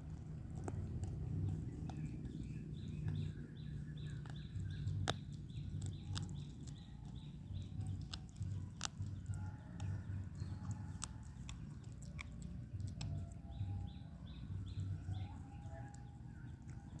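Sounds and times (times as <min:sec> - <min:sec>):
puppies lapping and chewing: 0:00.0 - 0:17.0.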